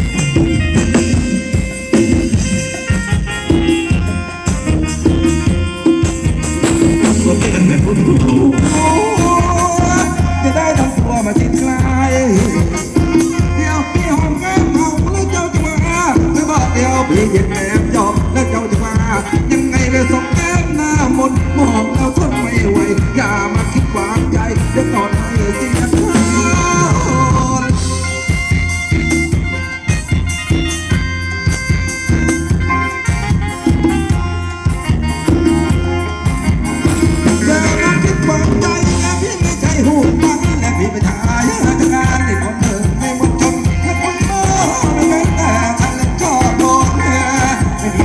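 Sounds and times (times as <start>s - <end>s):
drum beat: 0.0s - 48.0s
held organ-like chords: 0.0s - 48.0s
wavering melody line: 0.0s - 48.0s.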